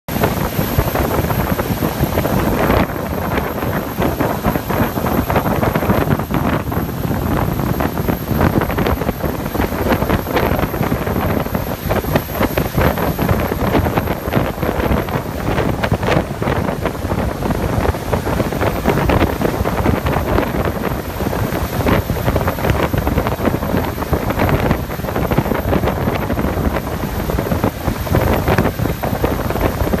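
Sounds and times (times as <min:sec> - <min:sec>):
boat engine: 0:00.1 - 0:30.0
wind buffeting microphone: 0:00.1 - 0:30.0.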